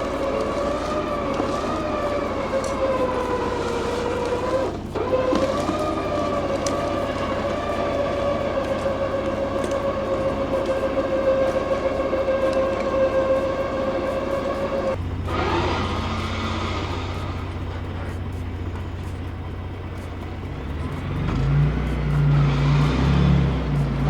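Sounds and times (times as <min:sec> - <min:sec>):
winch whining under load: 0:00.0 - 0:24.0.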